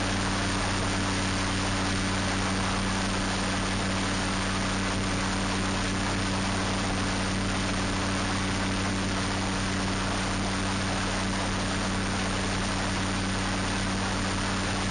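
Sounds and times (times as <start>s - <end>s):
ultralight engine and propeller drone: 0.0s - 14.9s.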